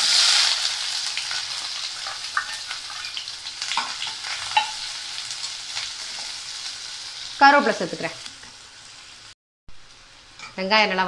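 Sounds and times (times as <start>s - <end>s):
onions sizzling in pan: 0.0s - 11.0s.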